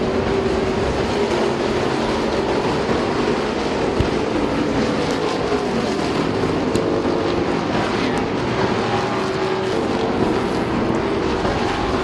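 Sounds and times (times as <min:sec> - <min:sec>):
race car engines roaring: 0:00.0 - 0:12.0.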